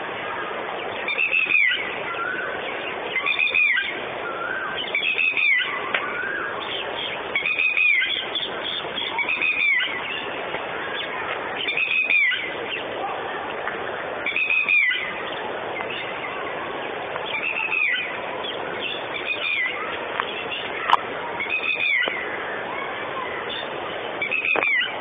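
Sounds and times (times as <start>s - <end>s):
bird calling: 0.8s - 25.0s.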